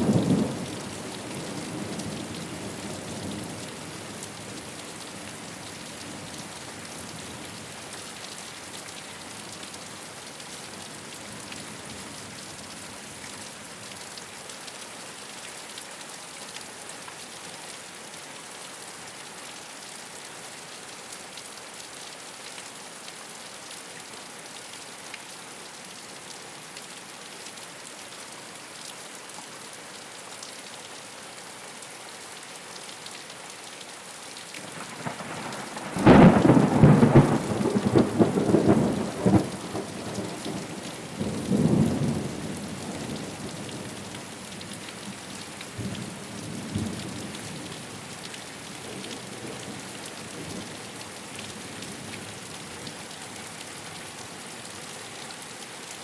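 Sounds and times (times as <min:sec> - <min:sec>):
rain on a rooftop: 0:00.0 - 0:56.0.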